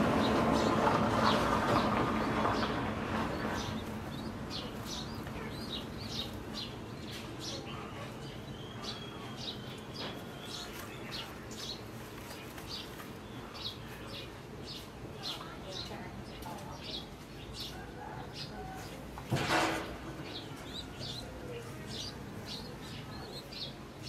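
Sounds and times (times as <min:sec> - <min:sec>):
faint steady background noise: 0:00.0 - 0:24.0
pigeon chicks peeping: 0:00.0 - 0:24.0.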